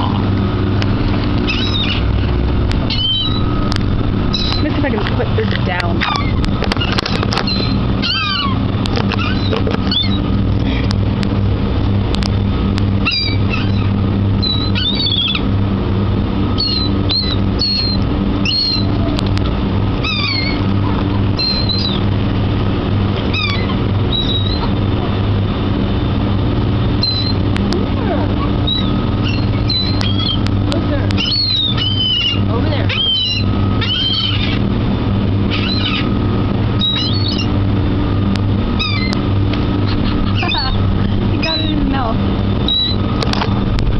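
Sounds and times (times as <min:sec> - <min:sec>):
seagulls calling: 0:00.0 - 0:10.8, 0:12.9 - 0:43.8
steady low hum: 0:00.0 - 0:43.9.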